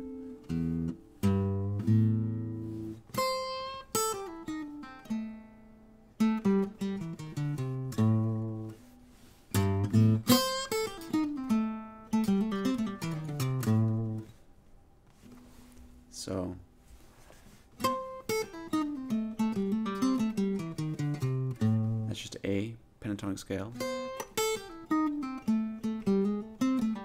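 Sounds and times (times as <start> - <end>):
fingerpicked acoustic blues guitar: 0.0 - 14.4, 17.7 - 22.3, 23.4 - 27.0.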